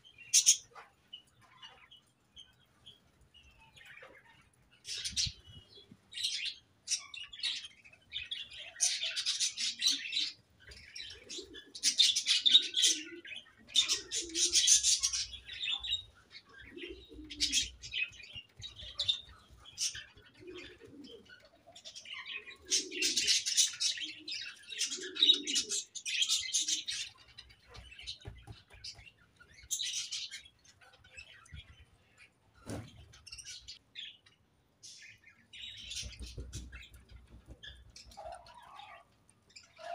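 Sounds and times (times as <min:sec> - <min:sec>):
budgerigars chirping and chattering: 0:00.2 - 0:02.6, 0:06.2 - 0:34.3, 0:34.9 - 0:39.9.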